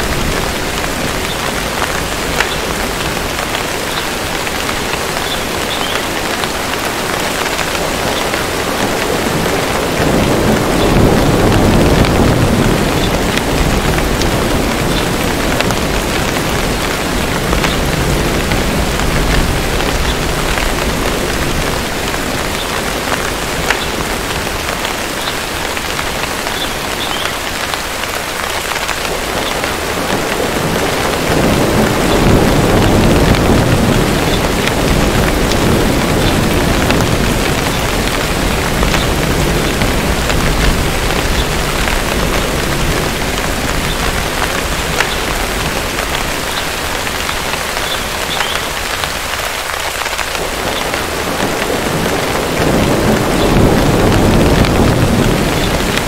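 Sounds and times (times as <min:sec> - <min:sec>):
distant thunder rumbling: 0:00.0 - 0:27.6, 0:28.7 - 0:56.0
heavy rain pattering: 0:00.0 - 0:56.0.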